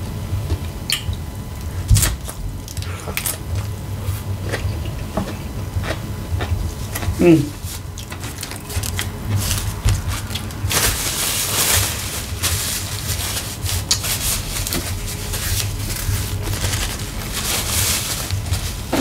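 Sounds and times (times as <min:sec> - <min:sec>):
person chewing crunchy chips: 0:00.9 - 0:19.0.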